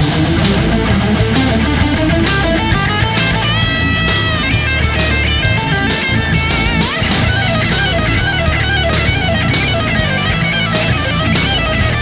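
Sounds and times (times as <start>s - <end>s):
rock music with electric guitar: 0.0s - 12.0s.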